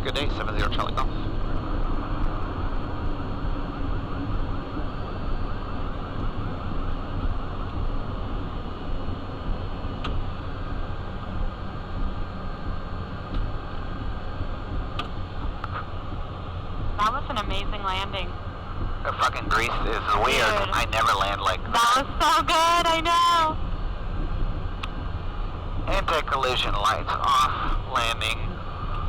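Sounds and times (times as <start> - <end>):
high turbine whine: 0.0 - 29.0
jet engines rushing rumble: 0.0 - 29.0.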